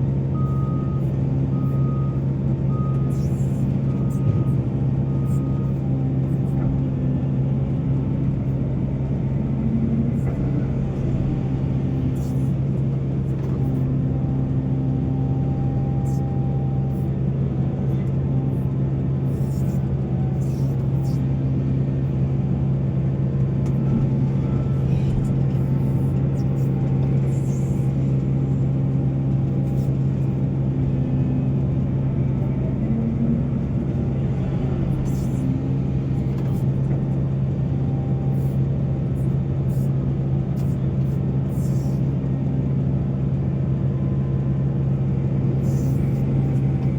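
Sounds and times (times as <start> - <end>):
heavy diesel engine droning: 0.0 - 46.9.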